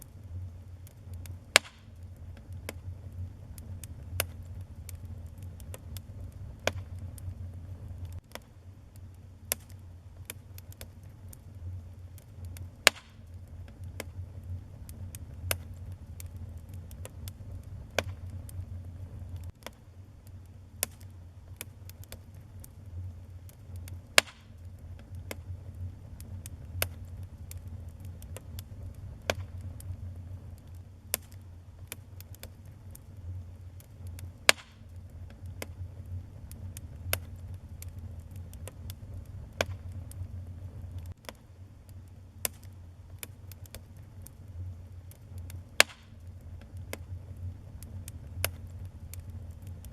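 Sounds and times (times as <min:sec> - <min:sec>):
fire flames rumbling: 0:00.0 - 0:49.9
logs crackling and popping: 0:00.0 - 0:49.9.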